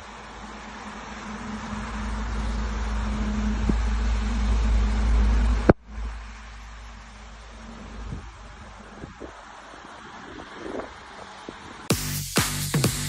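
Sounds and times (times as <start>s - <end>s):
faint steady hum: 0.0s - 11.9s
low rumbling vehicle noise: 0.0s - 13.0s.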